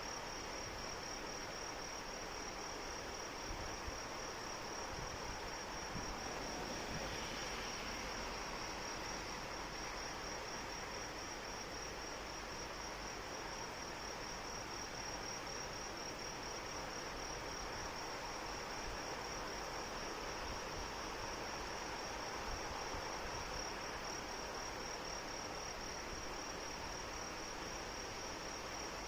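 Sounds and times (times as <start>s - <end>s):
crickets trilling: 0.0s - 29.0s
steady rainfall hiss: 0.0s - 29.0s.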